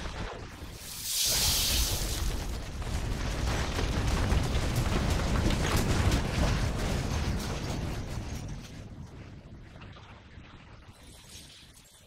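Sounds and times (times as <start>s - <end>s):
crackles and pops: 0.0s - 12.0s.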